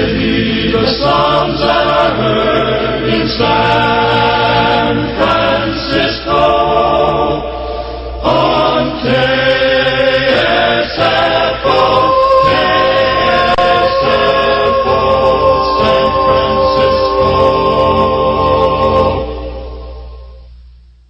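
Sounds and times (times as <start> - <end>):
choir singing: 0.0 - 20.4.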